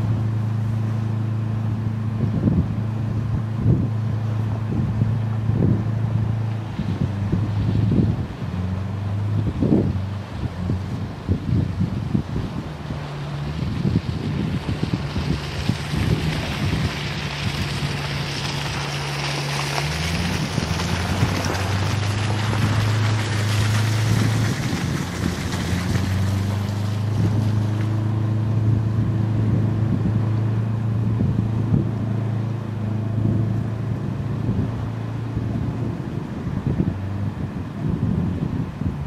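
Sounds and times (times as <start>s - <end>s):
boat engine running hard: 0.0s - 39.0s
churned water and wind hiss: 0.0s - 39.0s.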